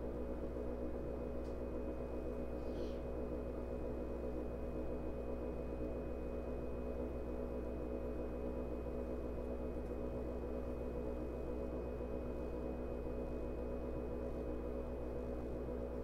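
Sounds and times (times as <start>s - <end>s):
electric train interior hum: 0.0s - 16.0s.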